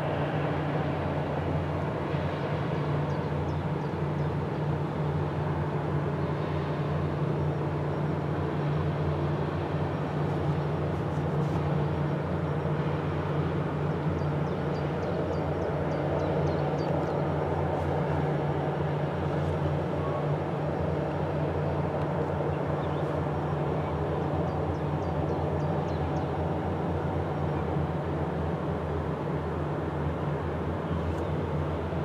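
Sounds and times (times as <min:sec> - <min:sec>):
ship engine drone: 0:00.0 - 0:32.0.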